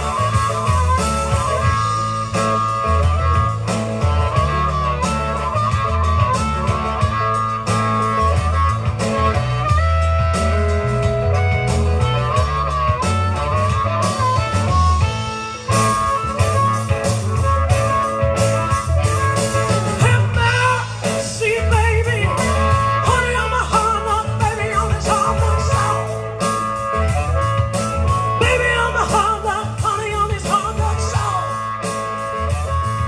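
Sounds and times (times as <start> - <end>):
bass guitar: 0.0 - 33.0
blues band playing: 0.0 - 33.0
drum kit beat: 0.0 - 33.0
lead guitar bent notes: 0.0 - 33.0.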